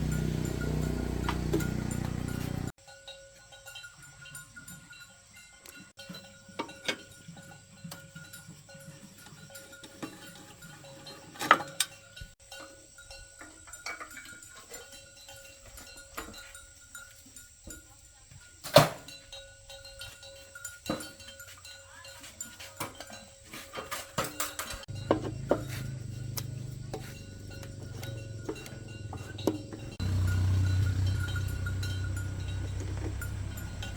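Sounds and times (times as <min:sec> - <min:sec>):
hand tools clinking on metal: 0:00.0 - 0:33.9.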